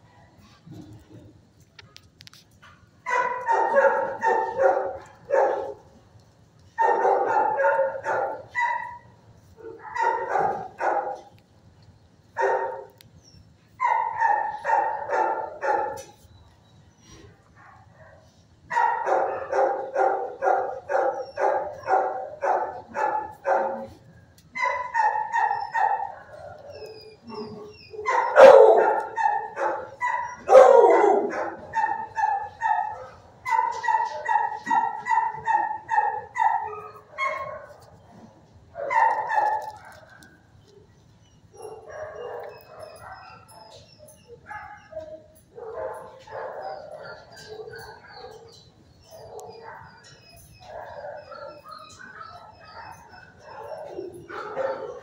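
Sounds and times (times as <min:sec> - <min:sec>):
dog barking: 0:03.1 - 0:05.8, 0:06.8 - 0:11.3, 0:12.4 - 0:13.0, 0:13.8 - 0:16.1, 0:17.6 - 0:24.0, 0:24.6 - 0:37.8, 0:38.8 - 0:40.4, 0:41.6 - 0:43.7, 0:44.4 - 0:55.0.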